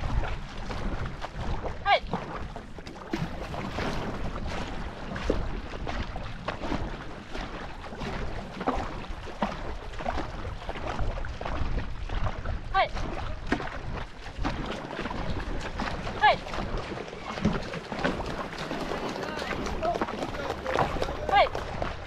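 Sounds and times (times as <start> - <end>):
paddle strokes splashing: 0.0 - 22.0
rushing water: 0.0 - 22.0
wind rumbling on microphone: 0.0 - 22.0.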